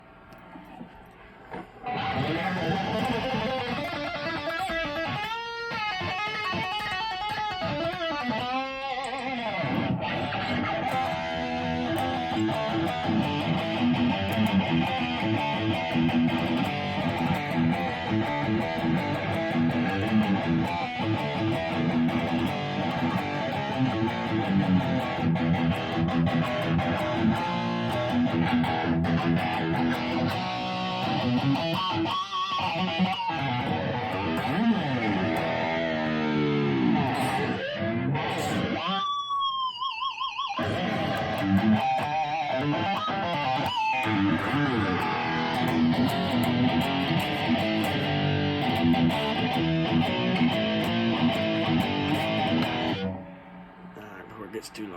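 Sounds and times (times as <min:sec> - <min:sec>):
electric guitar rock riff: 0:01.5 - 0:54.9.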